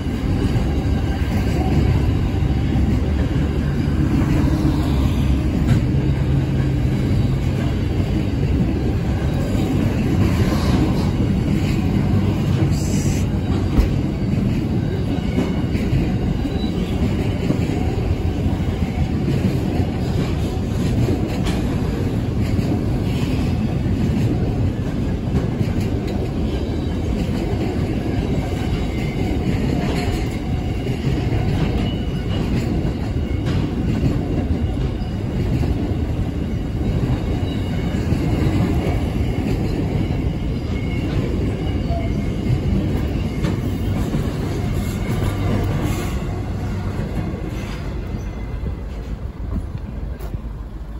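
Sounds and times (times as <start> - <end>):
steel wheels rumbling on rail: 0.0 - 50.9.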